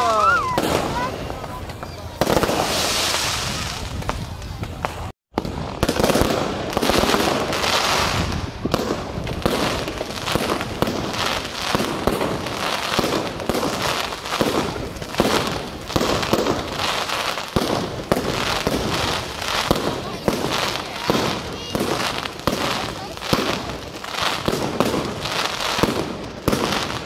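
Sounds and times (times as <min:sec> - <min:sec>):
fireworks bangs and pops: 0:00.0 - 0:27.0.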